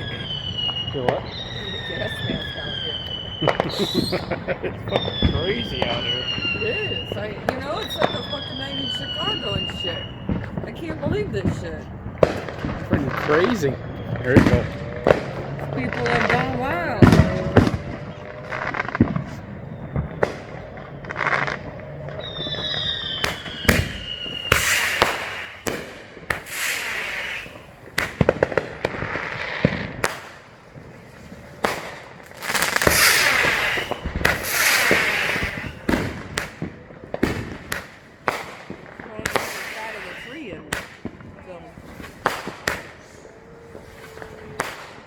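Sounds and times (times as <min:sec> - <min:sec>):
dense firework crackling: 0:00.0 - 0:45.0
falling firework whistle: 0:00.0 - 0:45.0
firework bangs: 0:00.0 - 0:45.0.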